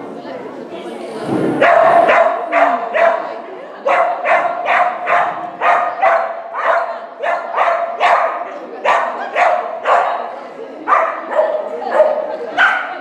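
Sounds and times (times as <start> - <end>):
dog barking: 1.6 - 10.3, 10.9 - 13.0.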